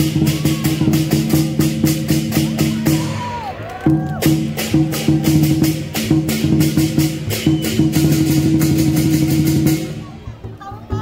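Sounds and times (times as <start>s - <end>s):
cymbals clashing: 0.0s - 3.5s, 4.2s - 10.1s
large drum beating: 0.0s - 11.0s.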